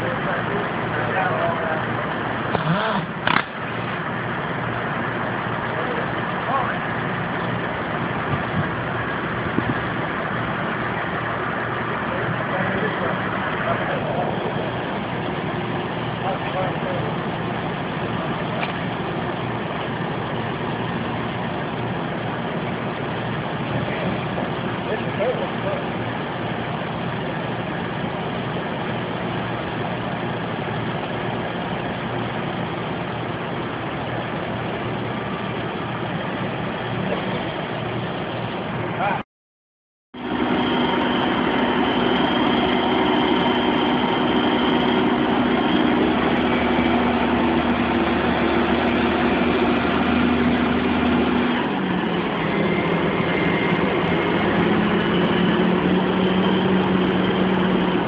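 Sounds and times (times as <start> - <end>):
crane engine running: 0.0 - 39.2, 40.2 - 58.0.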